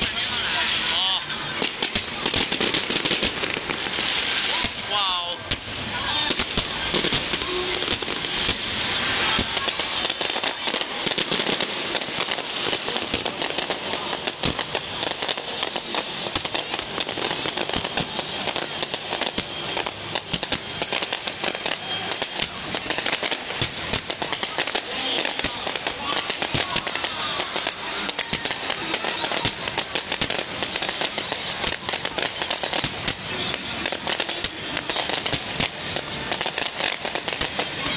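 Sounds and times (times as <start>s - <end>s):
fireworks bursting and crackling: 0.0s - 37.9s.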